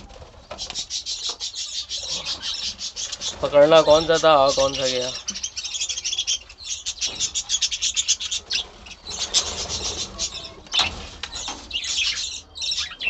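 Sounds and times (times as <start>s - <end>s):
budgerigars chirping: 0.4s - 13.0s.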